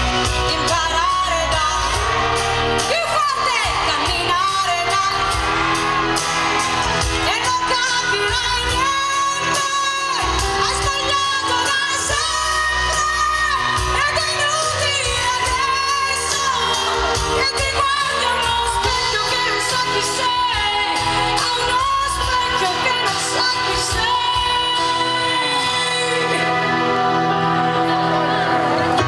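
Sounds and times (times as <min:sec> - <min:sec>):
woman singing: 0:00.0 - 0:05.8, 0:07.1 - 0:29.0
live pop band playing: 0:00.0 - 0:29.0.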